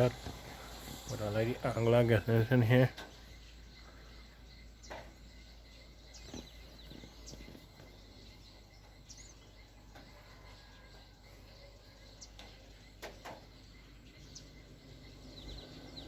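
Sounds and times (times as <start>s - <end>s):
faint outdoor hiss: 0.0s - 16.0s
high bird chirps: 0.0s - 16.0s.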